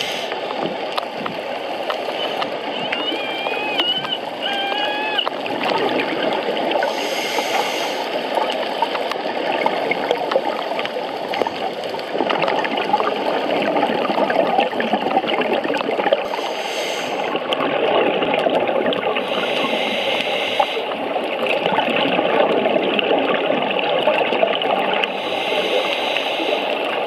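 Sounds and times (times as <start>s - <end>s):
divers exhaled bubbles hissing: 0.0s - 8.6s, 9.4s - 23.4s, 24.8s - 27.0s
underwater bubbling rush: 0.0s - 27.0s.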